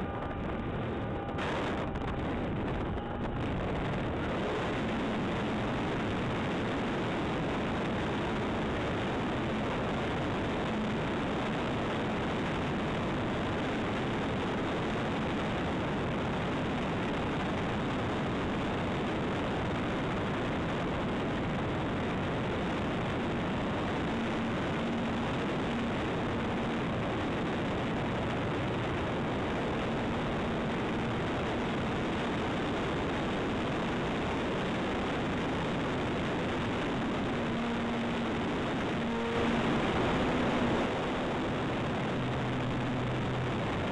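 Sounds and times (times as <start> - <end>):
faint low motor hum: 0.0 - 43.9
wind and propeller rushing: 0.0 - 43.9.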